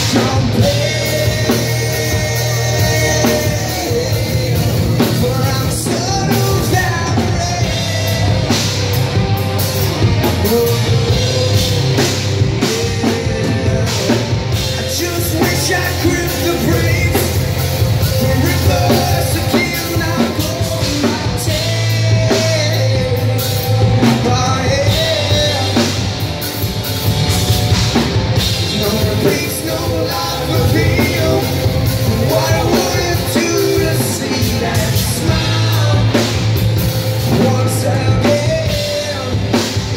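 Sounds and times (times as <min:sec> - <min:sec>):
rock band playing live: 0:00.0 - 0:39.9
singer's vocals: 0:00.0 - 0:39.9.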